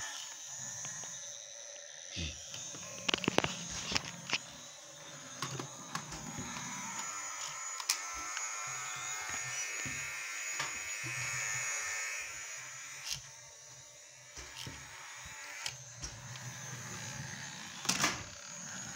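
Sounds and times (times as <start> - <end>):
toy helicopter motor buzzing: 0.0 - 18.9.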